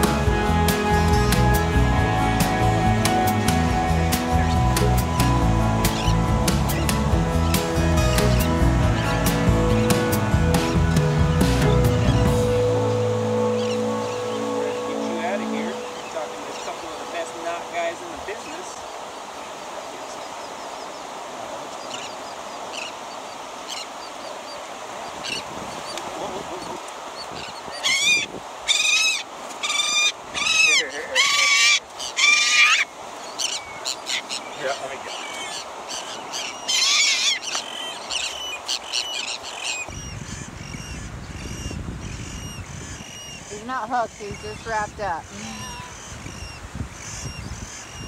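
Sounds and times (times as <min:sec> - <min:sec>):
seabirds calling: 0:00.0 - 0:48.0
steady surf: 0:00.0 - 0:48.0.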